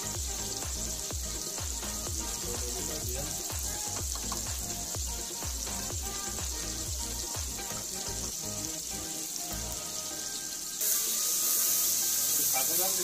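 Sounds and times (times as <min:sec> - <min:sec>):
background music with steady beat: 0:00.0 - 0:13.0
spices frying in hot oil: 0:00.0 - 0:13.0.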